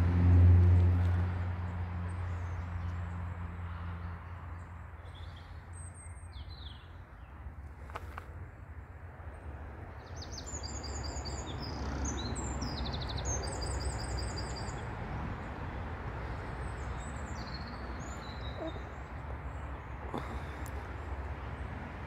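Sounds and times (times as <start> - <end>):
songbird singing: 1.7 - 8.2, 9.1 - 22.0.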